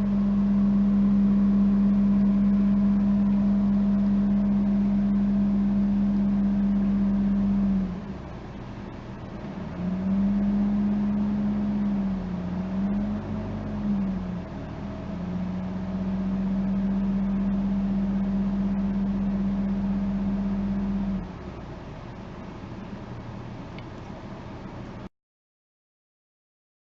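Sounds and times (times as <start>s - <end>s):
low droning car hum: 0.0s - 25.1s.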